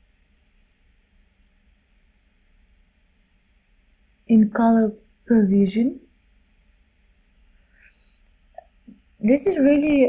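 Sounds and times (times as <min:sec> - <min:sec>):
light hiss: 0:00.0 - 0:10.0.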